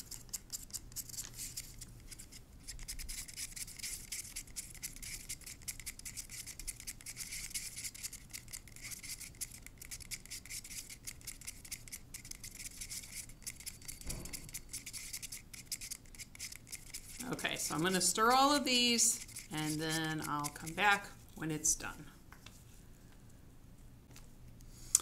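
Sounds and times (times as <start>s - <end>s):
stick scraping inside paper cup: 0.0s - 21.2s.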